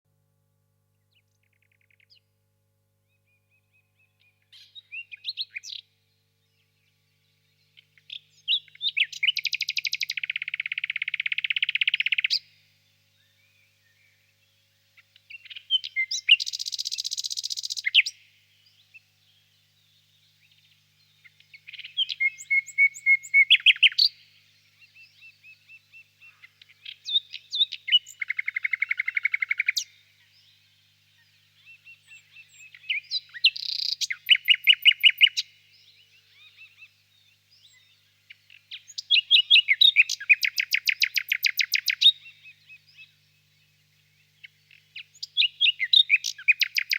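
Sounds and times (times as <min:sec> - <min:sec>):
nightingale singing: 0:03.1 - 0:46.9.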